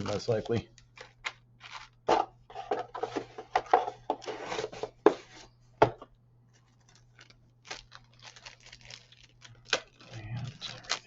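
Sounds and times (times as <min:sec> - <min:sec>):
plastic parts rustling and scraping: 0:00.0 - 0:11.0.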